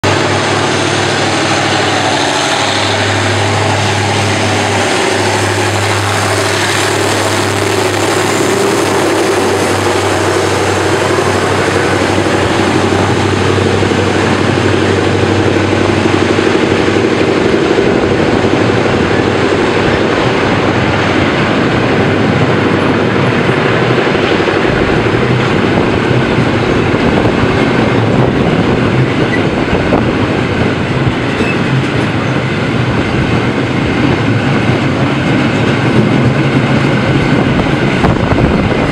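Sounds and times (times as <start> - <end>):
diesel locomotive engine drone: 0.0 - 38.9
freight wagons clattering on rails: 0.0 - 38.9.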